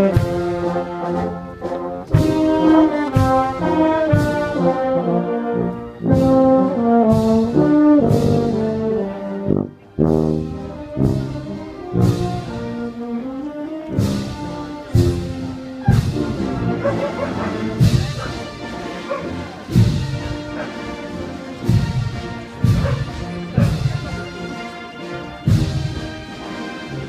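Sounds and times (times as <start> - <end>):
marching wind band playing: 0.0 - 27.0.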